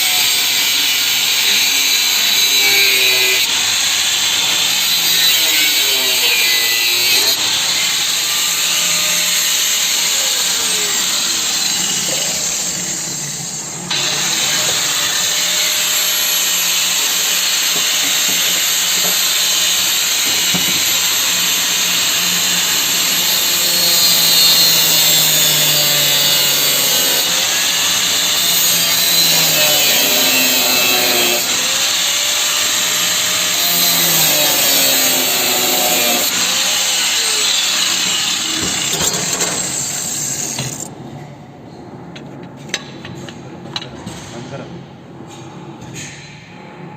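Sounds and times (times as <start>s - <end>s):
angle grinder cutting: 0.0s - 40.9s.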